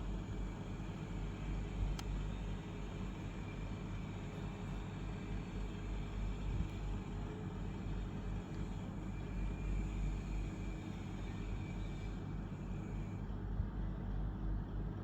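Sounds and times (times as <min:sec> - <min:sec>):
air conditioner fan airflow: 0:00.0 - 0:15.0.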